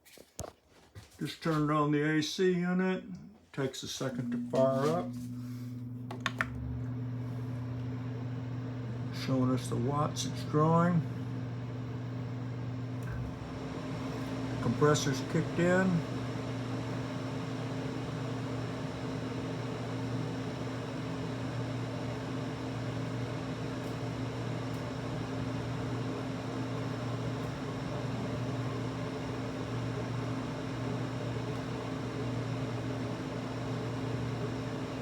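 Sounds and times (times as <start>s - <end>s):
window air conditioner running: 1.0s - 35.0s.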